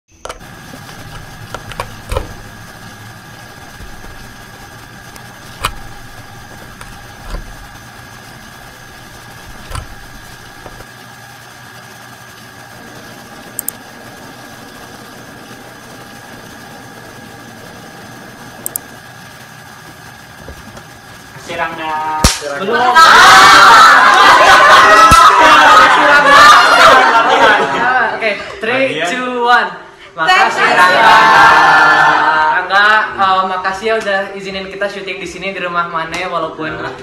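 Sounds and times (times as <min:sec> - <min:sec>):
computer hum and whine: 0:00.1 - 0:37.0.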